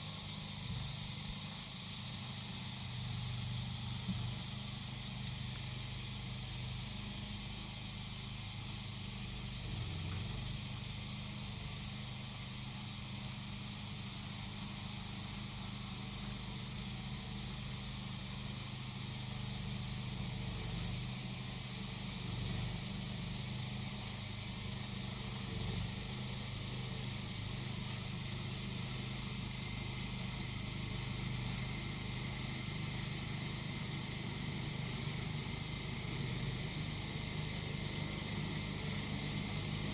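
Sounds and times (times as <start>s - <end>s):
cicadas shrilling: 0.0s - 8.2s, 11.2s - 39.9s
lawn mower engine running: 0.0s - 39.9s.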